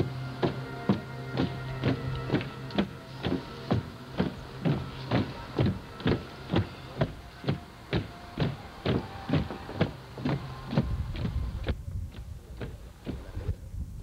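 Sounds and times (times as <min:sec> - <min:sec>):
faint sustained tones: 0:00.0 - 0:11.7
steady beat of sharp thumps: 0:00.0 - 0:13.3.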